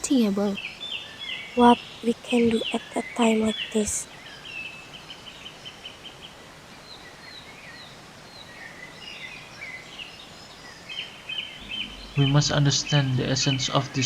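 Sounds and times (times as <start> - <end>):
outdoor background hiss: 0.0 - 14.0
small birds chirping: 0.0 - 14.0.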